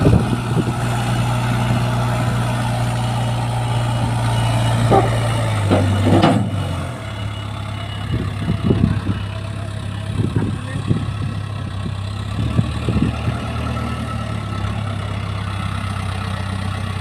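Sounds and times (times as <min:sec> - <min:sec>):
heavy diesel engine under load: 0:00.0 - 0:17.0.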